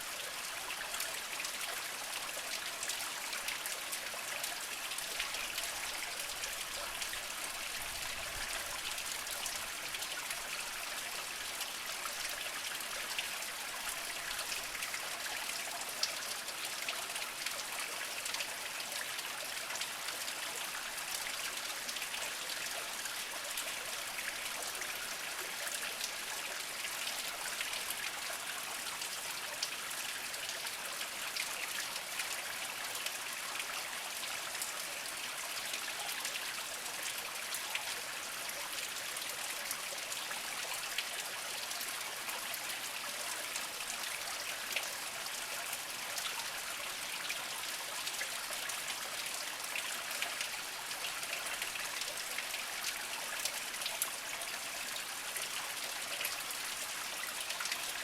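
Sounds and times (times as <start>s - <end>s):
spring water trickling over rocks: 0.0s - 58.0s.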